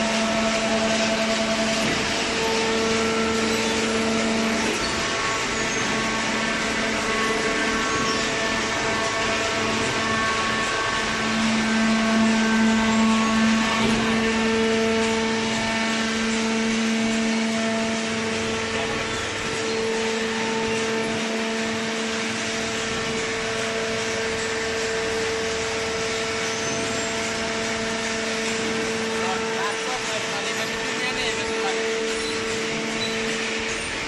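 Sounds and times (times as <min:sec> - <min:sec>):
baler machine drone with whining hum: 0:00.0 - 0:34.0.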